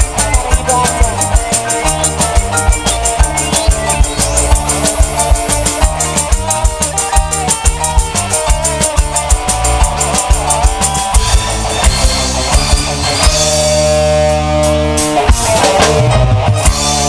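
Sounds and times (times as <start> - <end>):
quick drum beat: 0.0 - 13.8
band playing upbeat dance music: 0.0 - 17.0.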